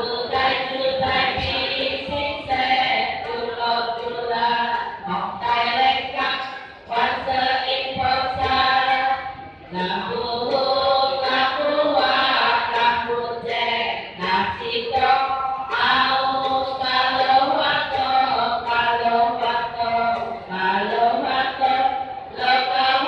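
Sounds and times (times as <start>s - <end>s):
group chanting in unison: 0.0s - 23.0s.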